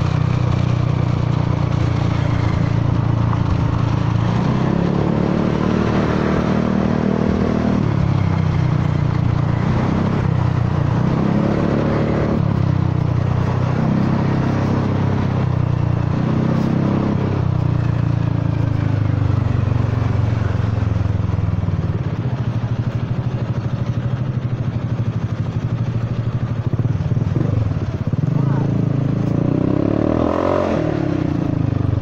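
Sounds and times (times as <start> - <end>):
scooter engine revving and idling: 0.0 - 32.0.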